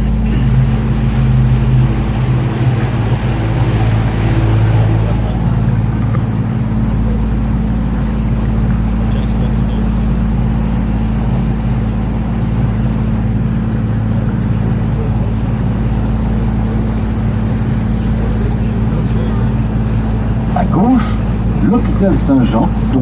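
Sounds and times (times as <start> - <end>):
boat motor humming: 0.0 - 23.0
water wash noise: 0.0 - 23.0.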